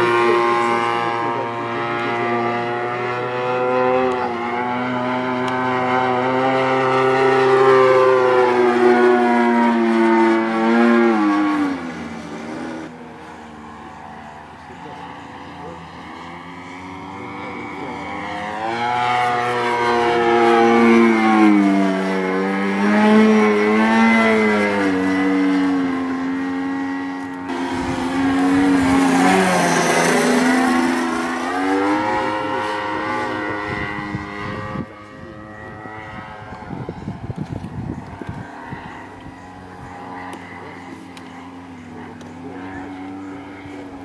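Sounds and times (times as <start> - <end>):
model airplane engine buzzing: 0.0 - 44.0.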